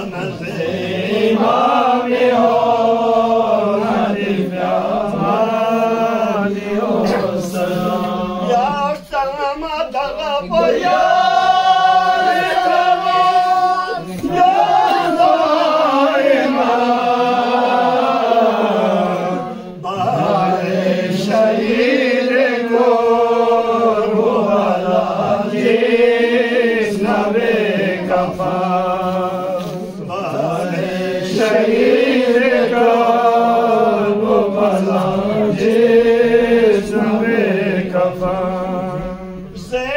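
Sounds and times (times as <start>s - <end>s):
men chanting: 0.0s - 39.9s.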